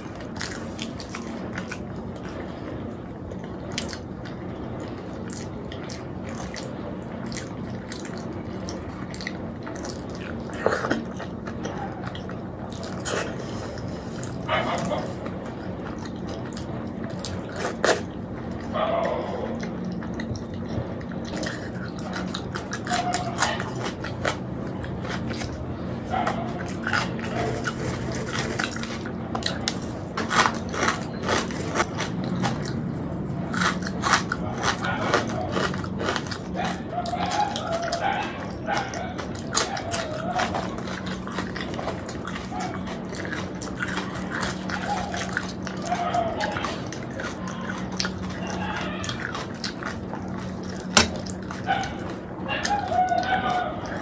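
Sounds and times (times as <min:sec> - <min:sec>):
faint low hum: 0:00.0 - 0:54.0
man chewing wetly: 0:00.0 - 0:54.0.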